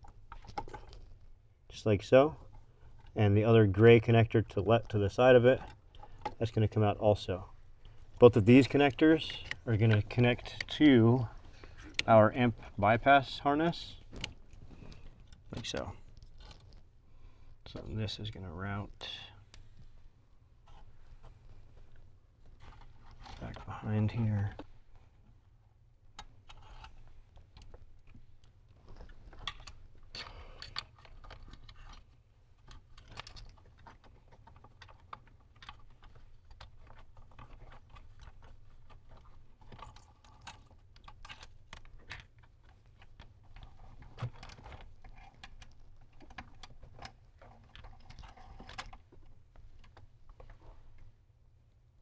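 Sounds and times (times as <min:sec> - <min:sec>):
clicks and rustles of wiring: 0:00.0 - 0:51.8.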